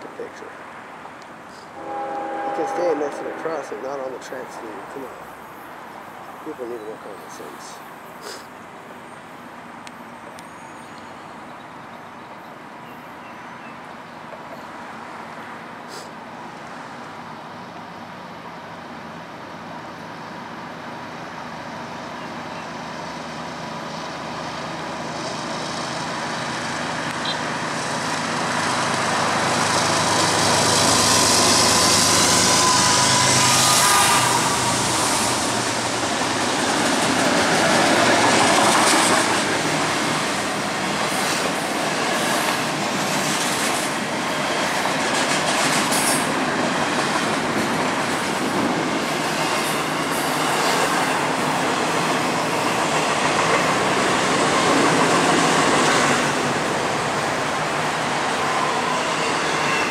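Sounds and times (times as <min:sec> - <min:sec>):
diesel locomotives passing: 0:00.0 - 0:59.9.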